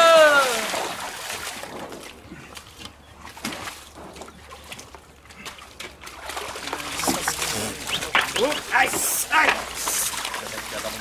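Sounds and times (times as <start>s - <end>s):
hooves splashing in muddy water: 0.2s - 11.0s.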